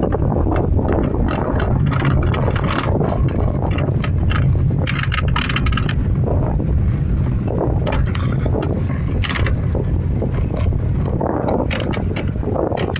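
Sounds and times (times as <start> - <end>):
car road rumble: 0.0 - 12.9.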